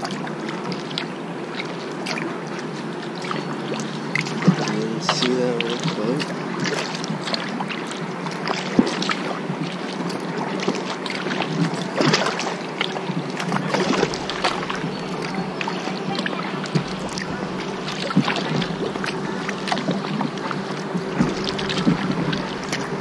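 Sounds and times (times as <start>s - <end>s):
paddle strokes splashing in water: 0.0s - 23.0s
steady hum: 0.0s - 23.0s.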